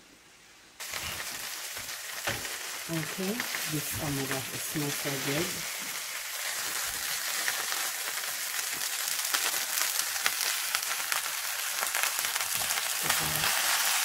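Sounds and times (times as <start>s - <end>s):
food sizzling in a pan: 0.8s - 14.0s
oil popping and crackling: 0.8s - 14.0s.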